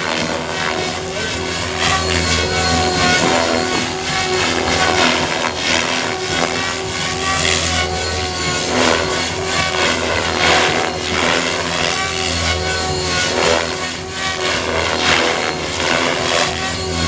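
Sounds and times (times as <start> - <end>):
rc helicopter motor whine: 0.0 - 17.0
rotor blades swooshing: 0.0 - 17.0.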